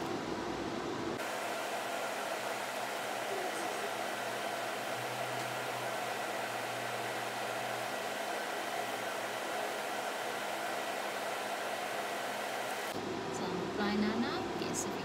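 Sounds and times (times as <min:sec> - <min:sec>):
cooling fan whirring: 0:00.0 - 0:15.0.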